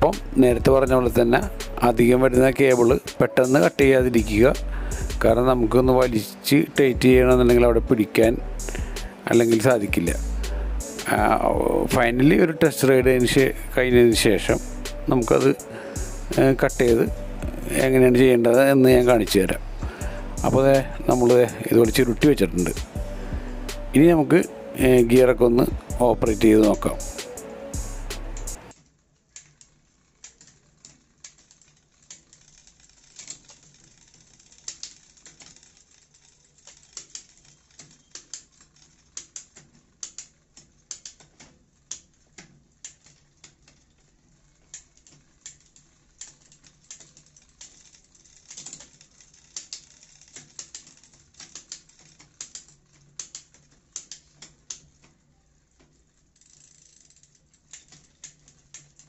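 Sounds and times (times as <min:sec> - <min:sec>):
bicycle chain clicking over gears: 0:00.0 - 0:59.0.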